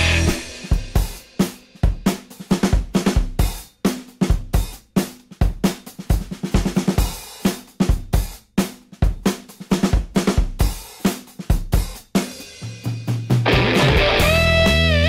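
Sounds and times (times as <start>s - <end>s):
rock drum beat: 0.0s - 15.0s.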